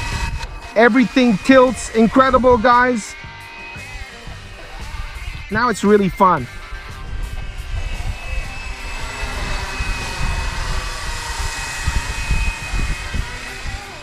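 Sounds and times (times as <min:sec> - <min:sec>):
wind on microphone: 0:00.0 - 0:05.6, 0:06.5 - 0:14.0
rc helicopter whine: 0:00.0 - 0:14.0.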